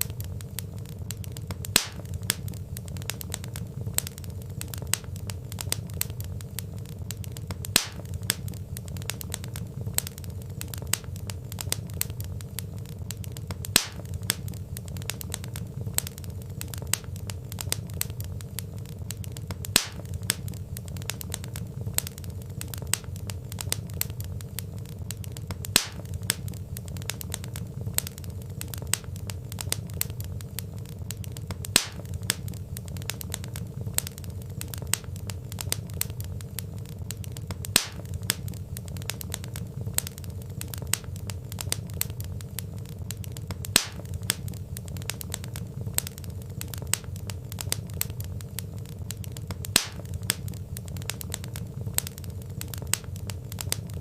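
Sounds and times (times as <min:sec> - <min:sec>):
loud fire pops: 0:00.0 - 0:54.0
wood fire crackling: 0:00.0 - 0:54.0.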